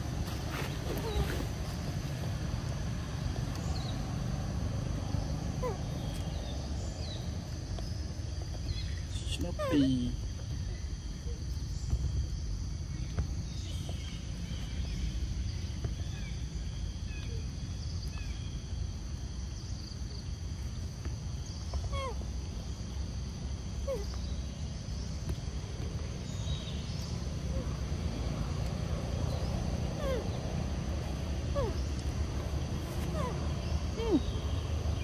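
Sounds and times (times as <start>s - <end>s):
constant low rumble: 0.0s - 35.0s.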